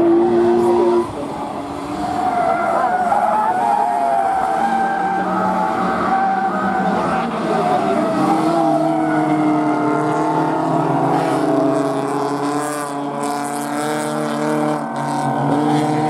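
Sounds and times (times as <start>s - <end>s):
racing car engines revving: 0.0s - 16.0s.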